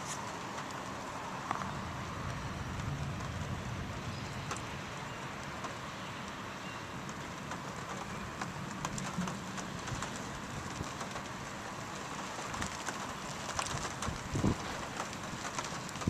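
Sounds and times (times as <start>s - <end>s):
rain falling: 0.0s - 16.0s
raindrops tapping a surface: 0.0s - 16.0s.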